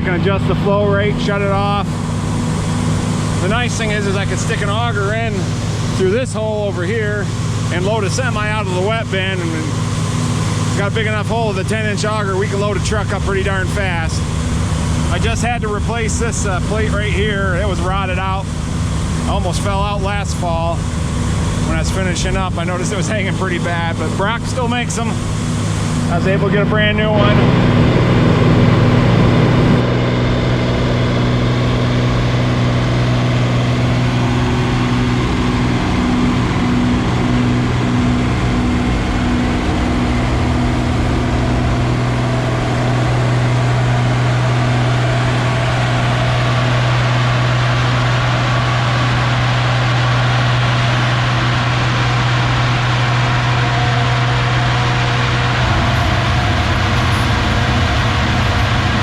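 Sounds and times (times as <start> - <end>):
farm machinery deep hum: 0.0 - 46.2, 55.4 - 59.0
higher machinery hum: 0.0 - 47.7, 55.1 - 59.0.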